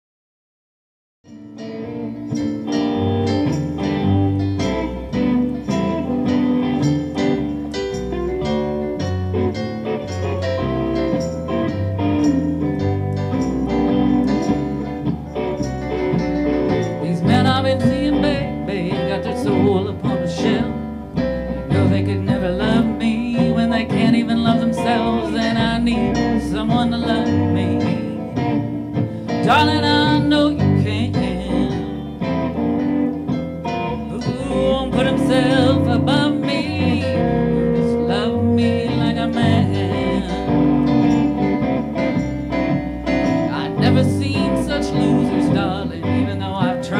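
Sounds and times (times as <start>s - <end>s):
guitar: 1.2s - 46.9s
blues band playing: 1.3s - 46.9s.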